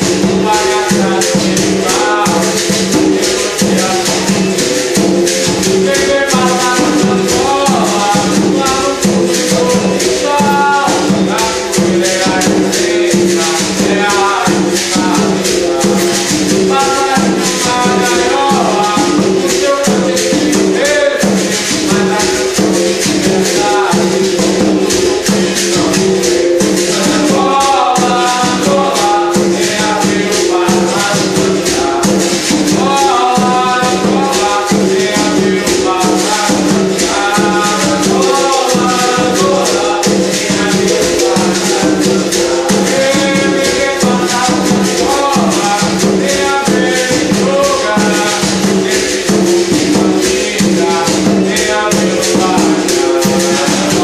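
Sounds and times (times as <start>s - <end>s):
hand drum: 0.0s - 54.0s
shakers rattling: 0.0s - 54.0s.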